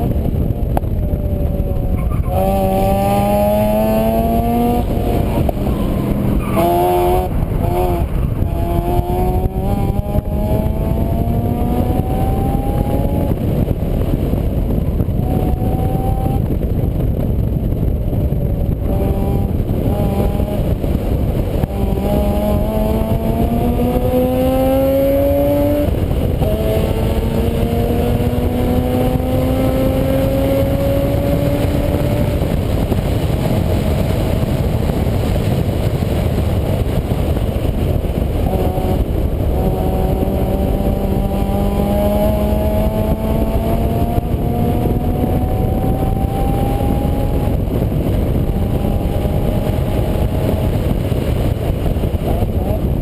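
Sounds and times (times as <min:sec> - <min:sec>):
heavy steady rumble: 0:00.0 - 0:53.0
vehicle engine accelerating: 0:00.0 - 0:53.0.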